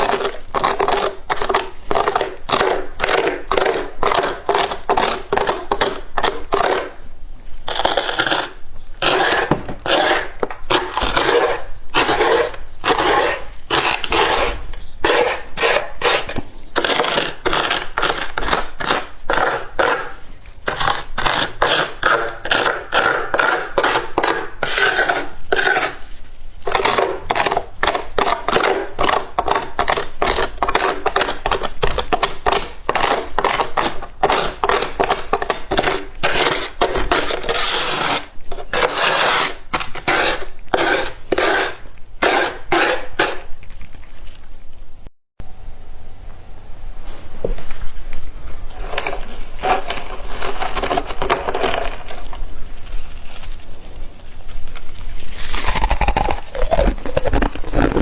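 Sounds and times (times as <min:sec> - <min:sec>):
freezer frost crunching and scraping: 0:00.0 - 0:44.5, 0:47.7 - 0:58.0.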